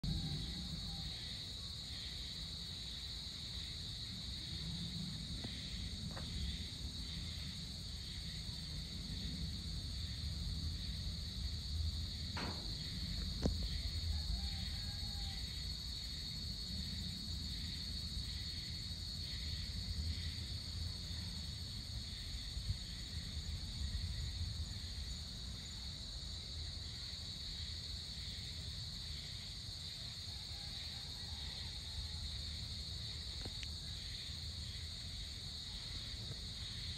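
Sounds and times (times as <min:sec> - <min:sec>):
insects buzzing trill: 0:00.1 - 0:36.9.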